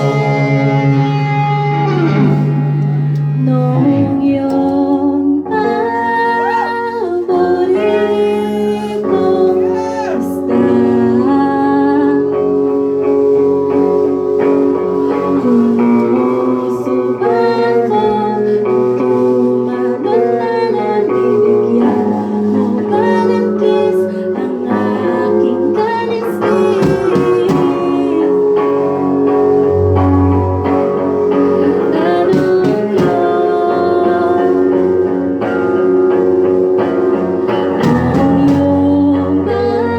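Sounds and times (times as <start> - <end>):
person singing: 0.0 - 36.2, 36.8 - 39.9
live band playing: 0.0 - 39.9.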